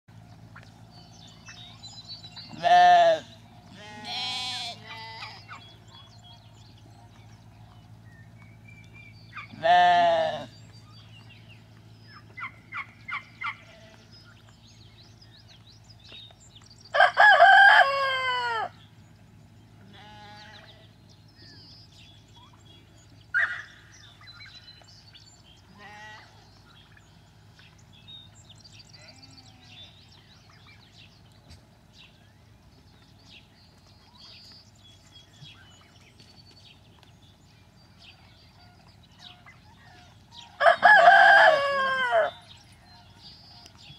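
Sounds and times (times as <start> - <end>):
farm animals calling: 0.1 - 43.9.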